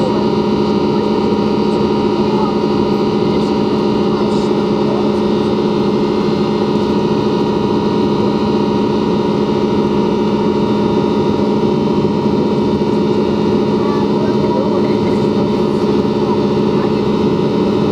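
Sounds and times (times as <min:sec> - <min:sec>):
jet engine cabin drone: 0:00.0 - 0:17.9.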